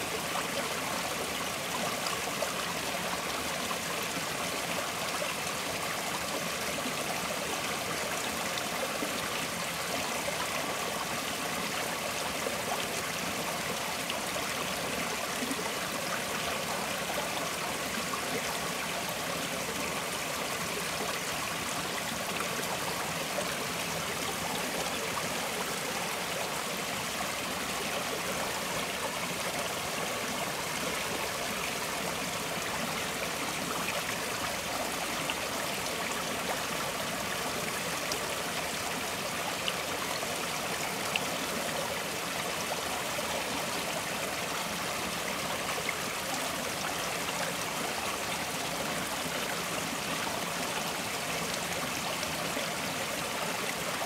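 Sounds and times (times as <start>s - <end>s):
forest stream flowing: 0.0s - 54.0s.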